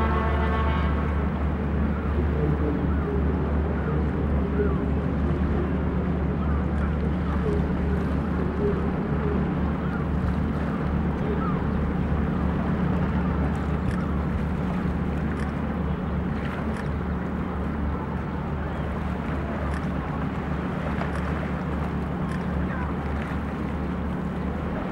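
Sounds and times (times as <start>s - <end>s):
boat engine drone: 0.0s - 24.9s
water noise: 0.0s - 24.9s
wind: 0.0s - 24.9s.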